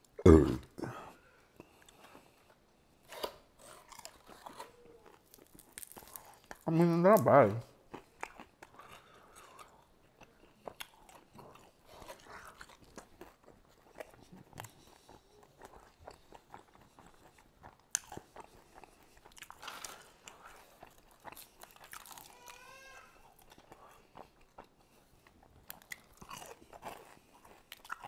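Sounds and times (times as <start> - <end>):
chewing and crunching chicken wings: 3.6 - 6.8, 7.8 - 28.0.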